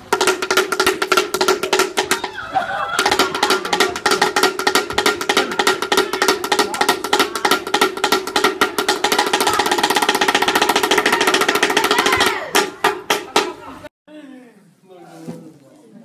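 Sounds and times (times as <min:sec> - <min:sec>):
wooden slit drum struck rapidly: 0:00.0 - 0:13.6.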